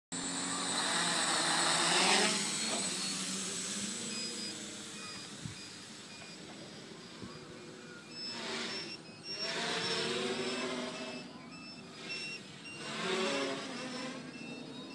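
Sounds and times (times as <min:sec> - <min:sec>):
drone propellers whirring: 0:00.2 - 0:14.9.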